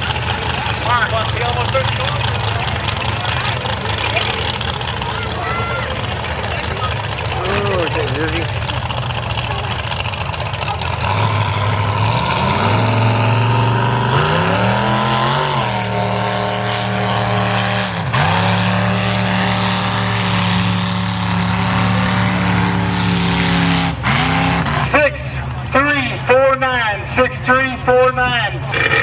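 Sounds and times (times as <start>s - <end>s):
truck engine revving hard: 0.0s - 29.0s.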